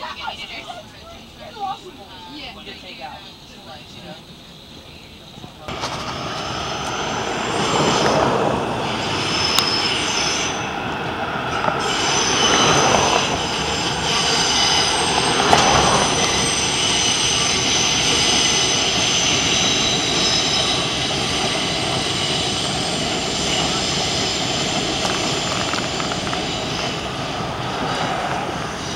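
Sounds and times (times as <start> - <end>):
subway train rumbling past: 0.0 - 28.9
steel wheel squeal: 5.7 - 28.9.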